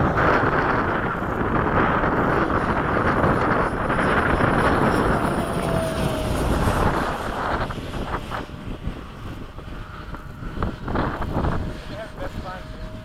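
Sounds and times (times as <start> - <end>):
model jet whine: 0.0 - 13.0
wind buffeting microphone: 0.0 - 13.0.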